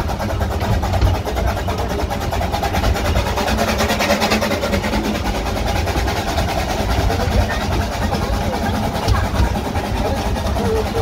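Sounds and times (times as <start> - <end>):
locomotive engine running: 0.0 - 11.0
train wheels rumbling on rail: 0.0 - 11.0.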